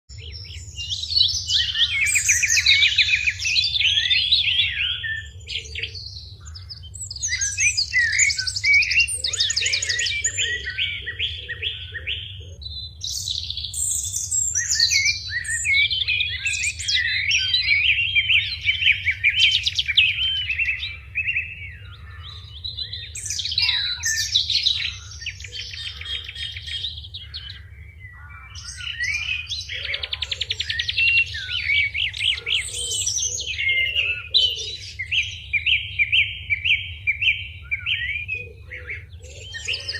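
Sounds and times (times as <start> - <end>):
songbirds chirping and singing: 0.1 - 39.9.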